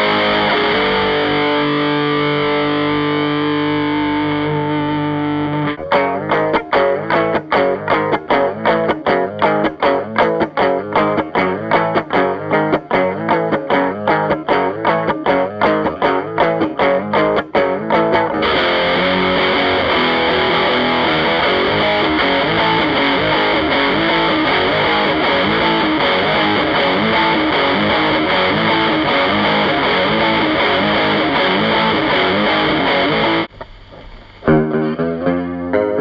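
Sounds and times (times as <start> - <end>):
distorted electric guitar: 0.0 - 36.0.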